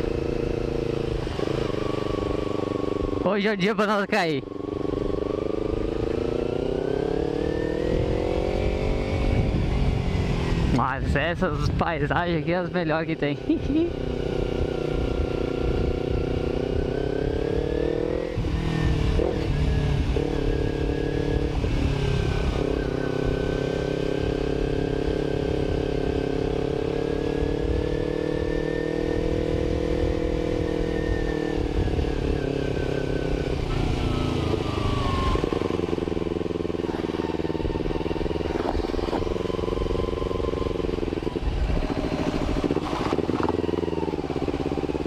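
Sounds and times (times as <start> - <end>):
motorcycle engine revving: 0.0 - 3.6, 4.3 - 45.0
wind and road noise: 0.0 - 45.0.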